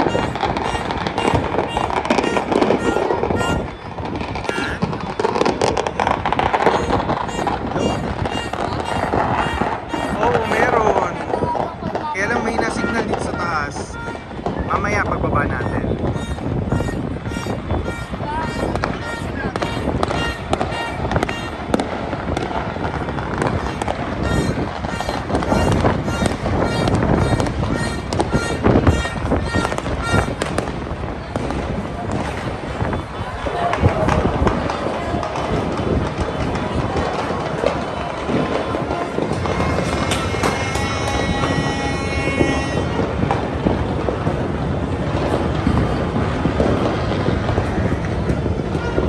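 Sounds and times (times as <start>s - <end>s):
fireworks crackling and banging: 0.0s - 49.0s
rumble of distant explosions: 0.0s - 49.0s.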